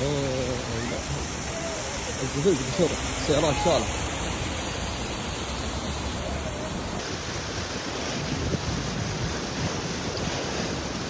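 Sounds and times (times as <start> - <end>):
floodwater rushing: 0.0 - 11.0
wind buffeting microphone: 0.0 - 11.0.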